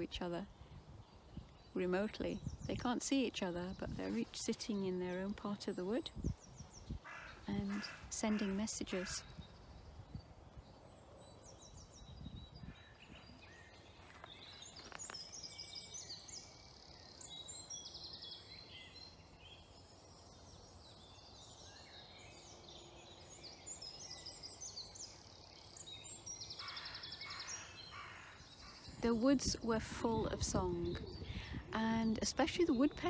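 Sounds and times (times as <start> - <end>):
songbirds singing and trilling: 0.0 - 33.0.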